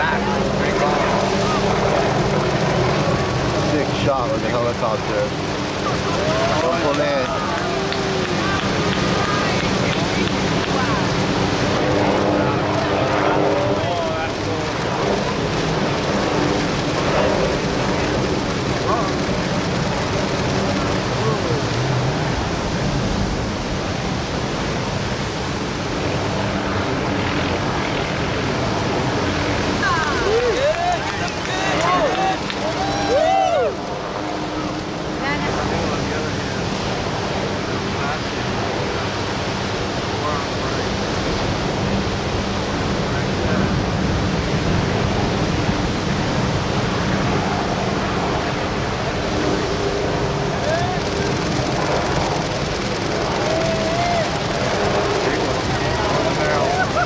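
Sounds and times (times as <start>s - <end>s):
boat engine hum: 0.0s - 57.0s
ocean surf rushing: 0.0s - 57.0s
wind: 0.0s - 57.0s.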